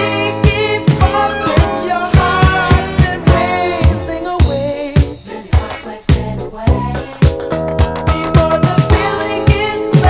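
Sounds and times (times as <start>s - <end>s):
soul-funk song: 0.0s - 10.0s
steady drum beat: 0.0s - 10.0s.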